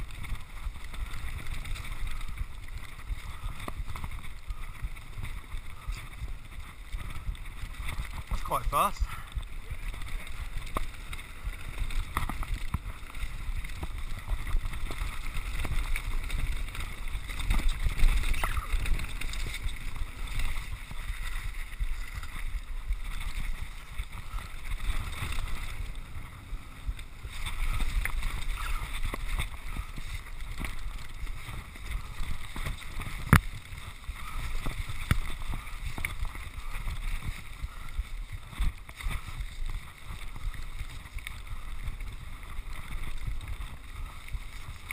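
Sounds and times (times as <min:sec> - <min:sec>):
bike rattling: 0:00.0 - 0:44.9
bike tyres crunching over stones: 0:00.0 - 0:44.9.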